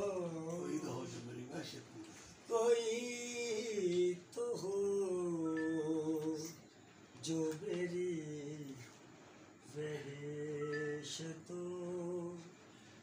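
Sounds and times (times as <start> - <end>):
man singing unaccompanied: 0.0 - 1.7, 2.4 - 6.6, 7.2 - 9.0, 9.6 - 12.6.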